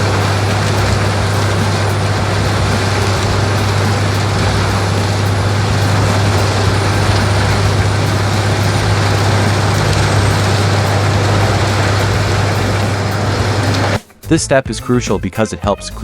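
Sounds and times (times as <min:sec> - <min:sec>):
wood shredder running: 0:00.0 - 0:14.0.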